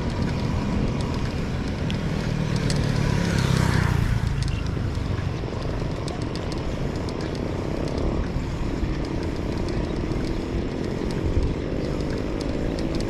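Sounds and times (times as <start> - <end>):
faint ticks: 0.0 - 13.0
vehicle rumble and road noise: 0.0 - 13.0.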